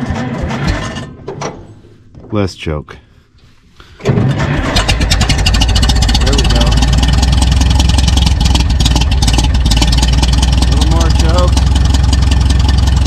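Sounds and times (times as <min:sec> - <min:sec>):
crawler tractor engine starting: 0:00.0 - 0:01.8, 0:04.0 - 0:13.0.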